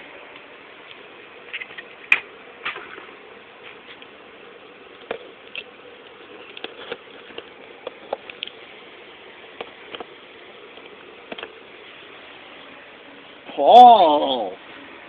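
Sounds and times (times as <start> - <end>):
faint hiss and hum: 0.0 - 15.0.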